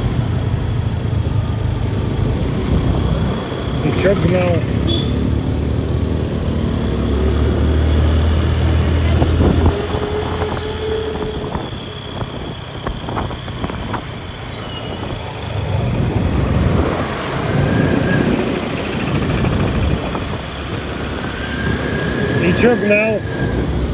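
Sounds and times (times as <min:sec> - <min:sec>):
traffic noise: 0:00.0 - 0:23.9
vehicle engine droning: 0:00.0 - 0:23.9.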